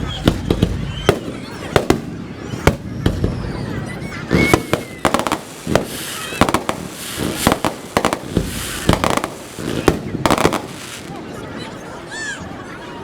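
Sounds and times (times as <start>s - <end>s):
fireworks bangs and crackling: 0.0s - 11.6s.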